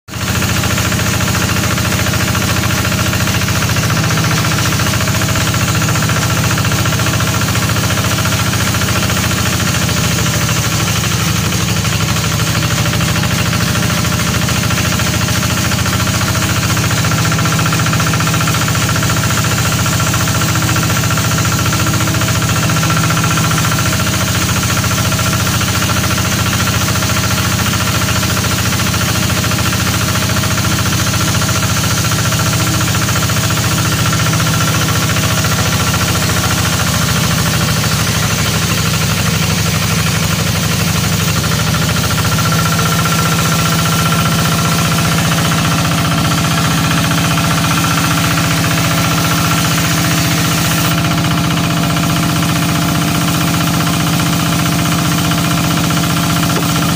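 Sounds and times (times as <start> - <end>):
sawmill drive droning: 0.1 - 56.9.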